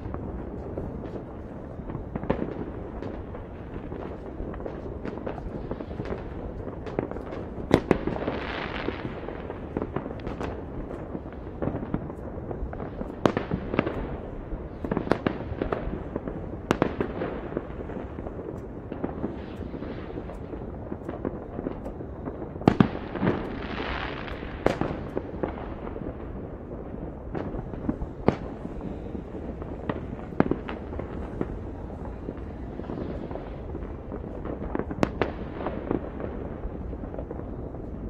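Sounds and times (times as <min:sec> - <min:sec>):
fireworks banging: 0:00.0 - 0:38.0
fireworks crackling: 0:00.0 - 0:38.0.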